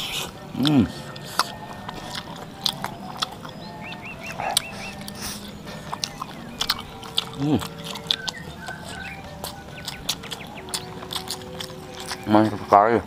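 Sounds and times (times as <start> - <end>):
person chewing food: 0.0 - 13.0
wet mouth clicks and smacks: 1.2 - 12.3.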